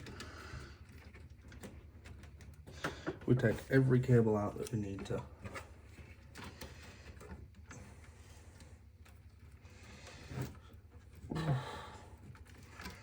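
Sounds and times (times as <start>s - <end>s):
cable connectors clicking and rustling: 0.0s - 13.0s.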